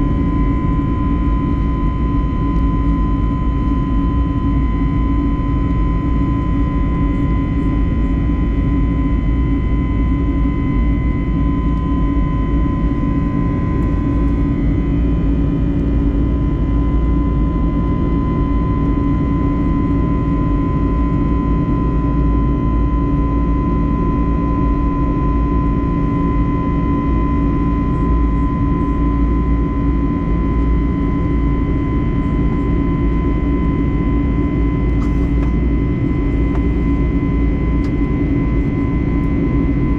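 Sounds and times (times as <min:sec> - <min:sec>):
jet engines humming in cabin: 0:00.0 - 0:39.9.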